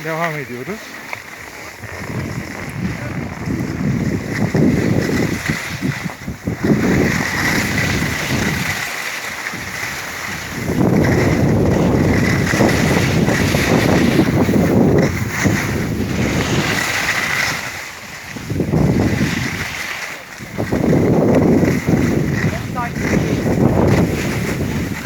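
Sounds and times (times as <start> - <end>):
skis sliding on snow: 0.0 - 25.0
wind rushing over microphone: 1.3 - 25.0.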